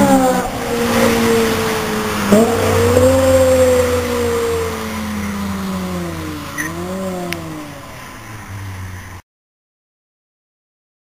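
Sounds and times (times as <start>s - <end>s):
car engine passing: 0.0s - 9.2s.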